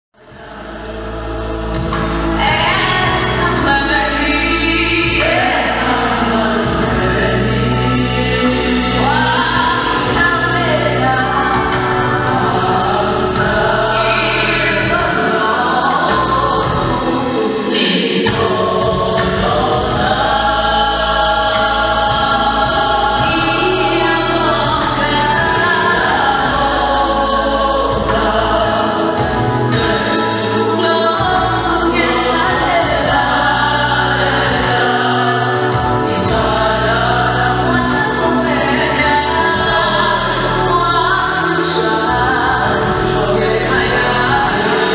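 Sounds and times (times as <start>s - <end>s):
low bass: 0.2s - 17.4s, 18.3s - 44.9s
vocal group singing in harmony: 0.2s - 44.9s.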